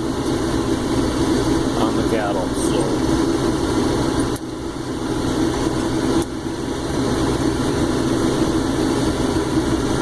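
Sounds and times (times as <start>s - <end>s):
combine engine and threshing drone: 0.0s - 10.0s.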